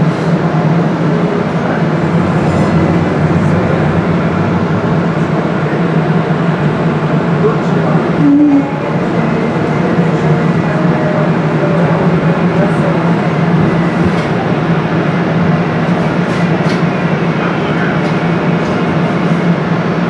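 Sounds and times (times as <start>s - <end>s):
train low hum: 0.0s - 20.0s
wheels rumbling on track: 0.0s - 20.0s.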